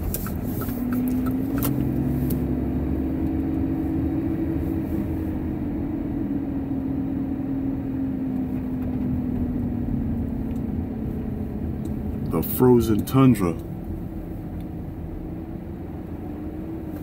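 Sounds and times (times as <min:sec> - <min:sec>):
car engine hum: 0:00.0 - 0:17.0
road rumble: 0:00.0 - 0:17.0.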